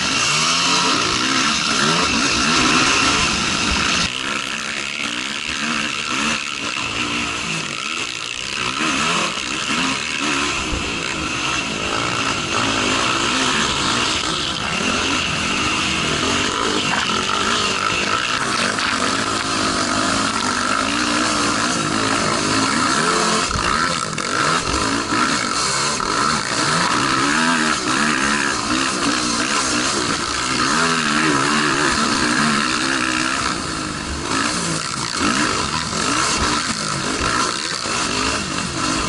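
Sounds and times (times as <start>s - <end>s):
quad engine revving: 0.0s - 39.0s.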